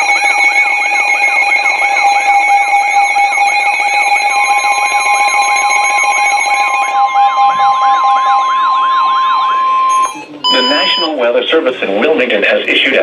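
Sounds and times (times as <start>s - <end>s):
high-pitched alarm tones: 0.0s - 11.2s
warbling siren tone: 0.0s - 11.2s
steady warning tone: 0.0s - 11.4s.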